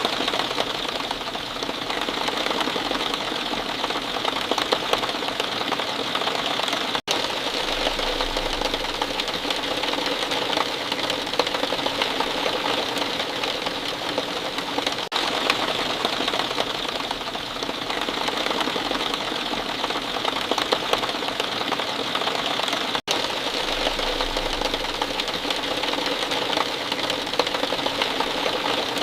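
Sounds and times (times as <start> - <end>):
rain patter: 0.0 - 29.0.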